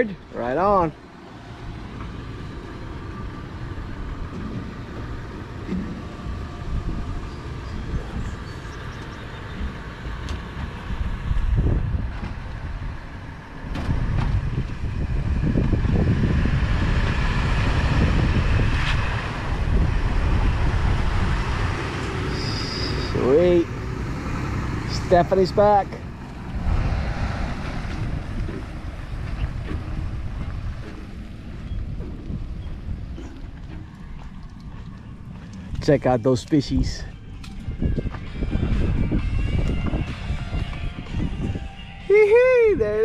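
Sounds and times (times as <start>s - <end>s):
engine rumbling: 0.0s - 43.0s.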